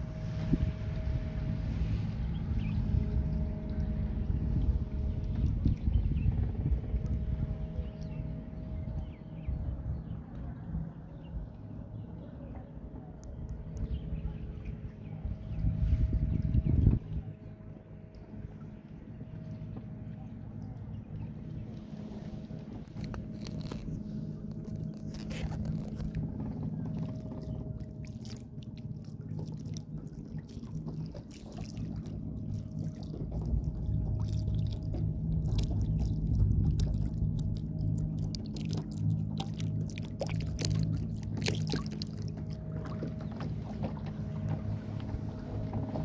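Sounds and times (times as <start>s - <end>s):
boat motor humming: 0.0s - 46.0s
water splashing against hull: 0.0s - 46.0s.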